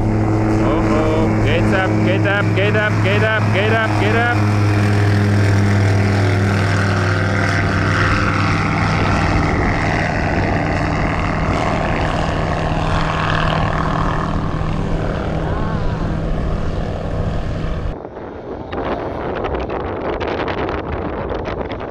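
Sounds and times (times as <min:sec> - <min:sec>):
low steady hum: 0:00.0 - 0:18.0
propeller engine drone: 0:00.0 - 0:21.9.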